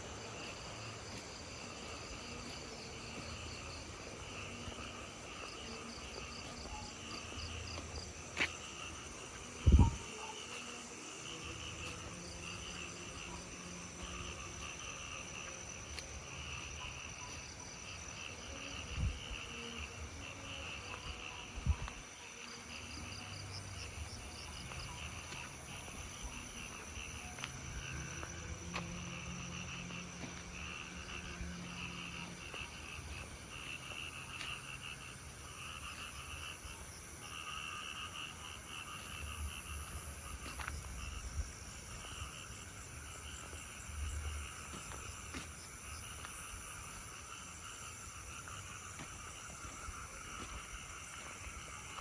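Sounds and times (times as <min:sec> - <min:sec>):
crickets trilling: 0:00.0 - 0:52.0
insects pulsing chirps: 0:00.0 - 0:52.0.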